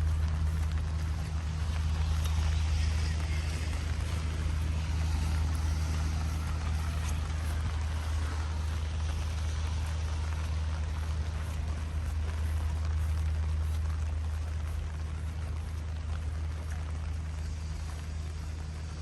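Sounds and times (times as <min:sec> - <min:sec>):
low hum: 0:00.0 - 0:19.0
steady rain hiss: 0:00.0 - 0:19.0.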